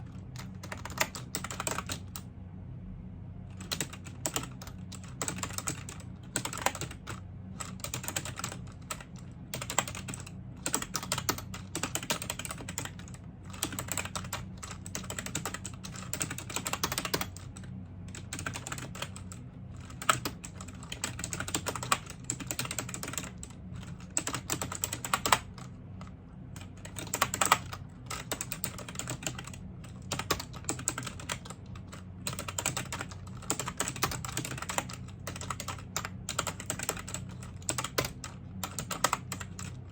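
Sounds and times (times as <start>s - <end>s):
computer keyboard typing: 0.0s - 2.3s, 3.6s - 39.9s
steady low hum: 0.0s - 39.9s.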